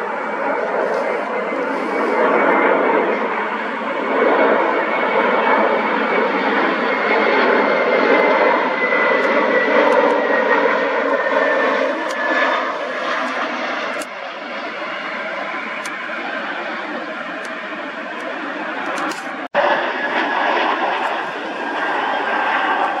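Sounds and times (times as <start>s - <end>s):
jet engine rush: 0.0s - 23.0s.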